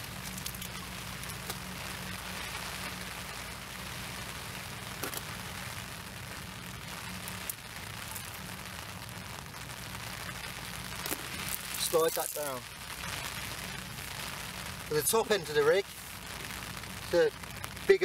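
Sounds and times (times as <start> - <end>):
rain on umbrella: 0.0 - 18.0.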